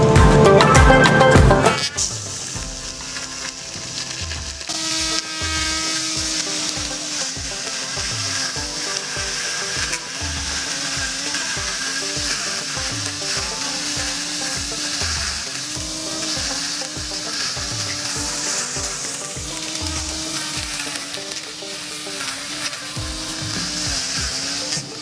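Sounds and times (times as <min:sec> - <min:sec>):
background music with beat: 0:00.0 - 0:25.0
grass trimmer cutting grass: 0:01.8 - 0:25.0.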